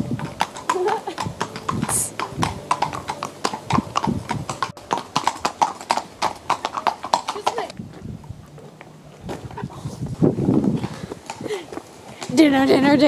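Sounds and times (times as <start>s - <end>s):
hooves clip-clopping on tarmac: 0.0s - 13.0s.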